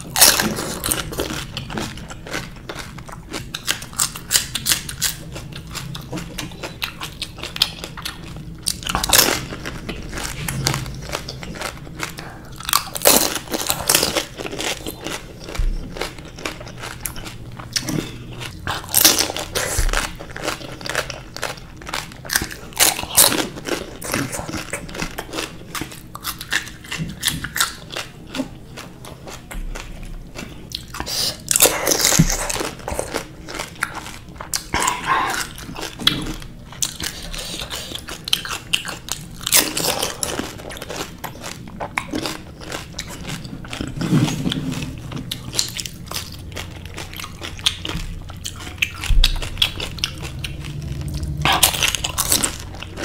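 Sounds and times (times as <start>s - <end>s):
crunchy food chewing: 0.0s - 53.0s.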